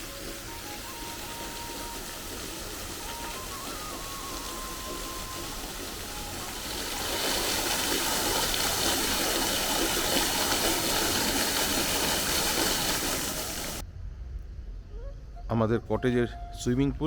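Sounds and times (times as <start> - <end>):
running water rushing: 0.0 - 13.8.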